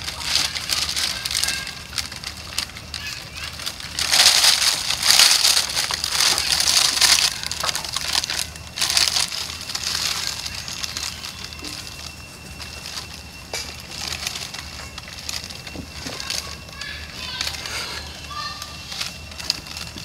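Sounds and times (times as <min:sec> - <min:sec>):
monkeys scuffling on dry leaves: 0:00.0 - 0:20.0
plastic bag crumpling: 0:00.0 - 0:20.0.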